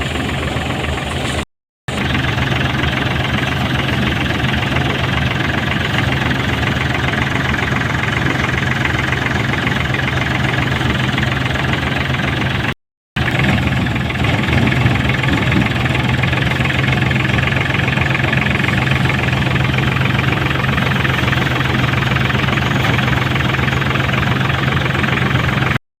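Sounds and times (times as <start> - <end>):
tractor engine running: 0.0 - 25.8.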